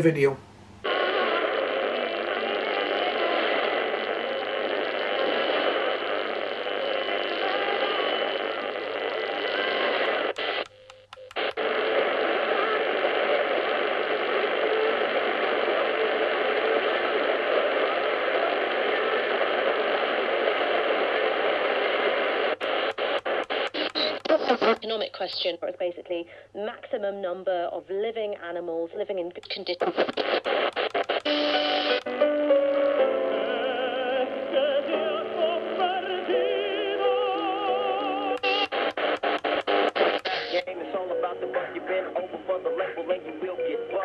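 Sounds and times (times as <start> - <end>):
radio static hiss: 0.0 - 27.3, 28.2 - 44.0
faint radio programme: 0.0 - 44.0.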